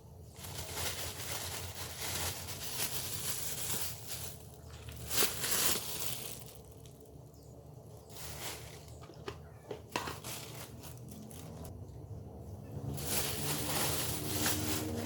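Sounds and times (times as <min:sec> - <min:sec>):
rustling and crinkling: 0:00.2 - 0:11.7, 0:12.8 - 0:15.0.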